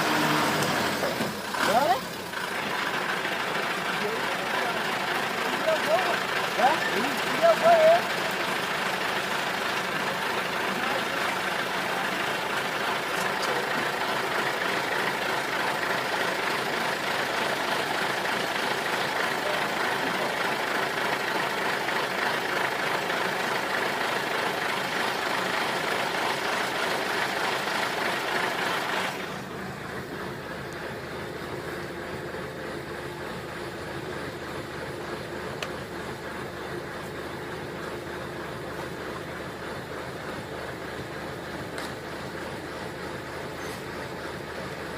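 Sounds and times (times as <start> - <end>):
truck engine and road noise: 0.0 - 44.9.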